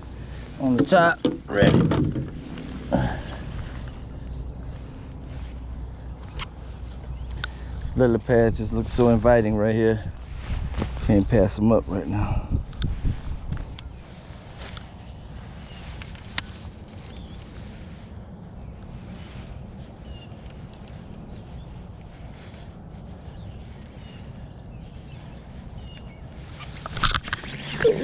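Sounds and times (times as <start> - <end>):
high-pitched insect chorus: 0.0 - 28.0
wind rumble on microphone: 0.0 - 28.0.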